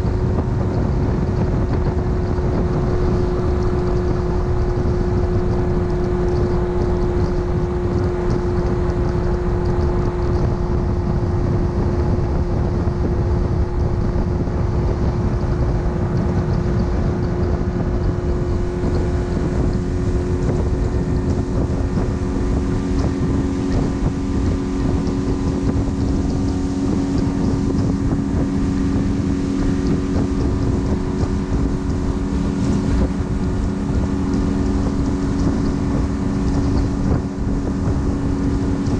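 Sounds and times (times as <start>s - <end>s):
low steady tone: 0.0s - 38.9s
outboard motor running: 0.0s - 38.9s
wind buffeting microphone: 0.0s - 38.9s.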